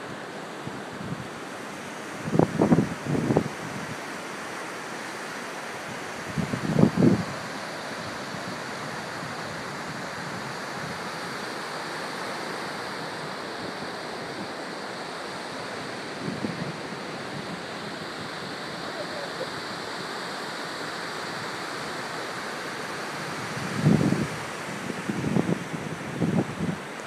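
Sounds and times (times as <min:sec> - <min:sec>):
small waves washing onto beach: 0:00.0 - 0:27.0.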